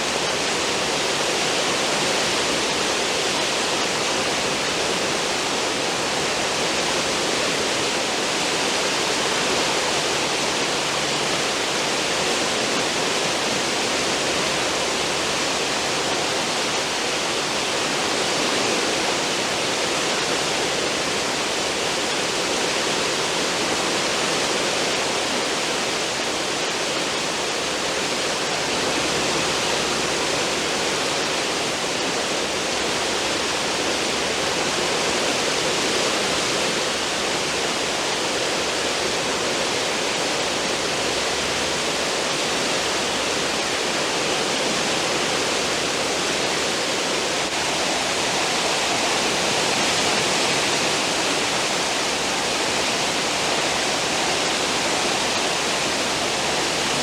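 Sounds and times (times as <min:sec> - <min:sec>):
ship wake water rushing: 0:00.0 - 0:57.0.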